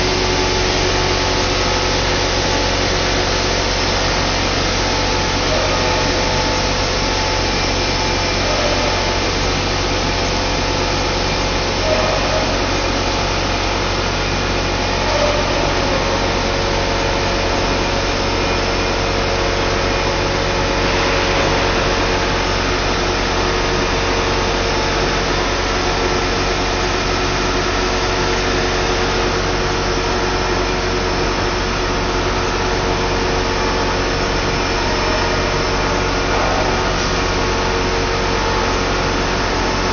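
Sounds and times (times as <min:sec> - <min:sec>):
blow moulding machine drone: 0:00.0 - 0:39.9.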